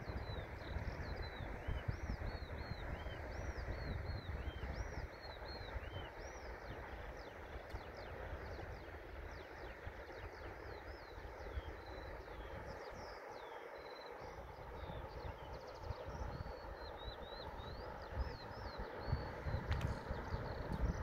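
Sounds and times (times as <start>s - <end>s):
small birds chirping: 0.0s - 21.0s
wind hiss: 0.0s - 21.0s
wind rumbling on microphone: 0.0s - 21.0s.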